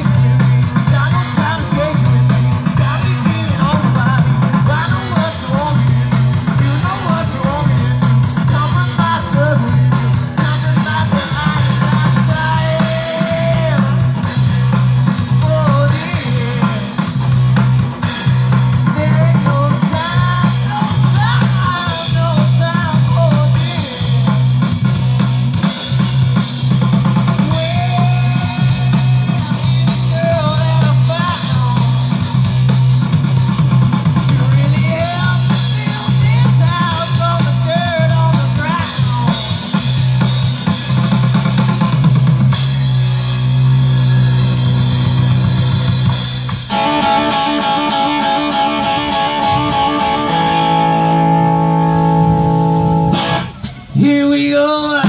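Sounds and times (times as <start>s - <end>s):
drum kit with cymbals: 0.0s - 47.3s, 50.6s - 55.0s
electric guitars: 0.0s - 55.0s.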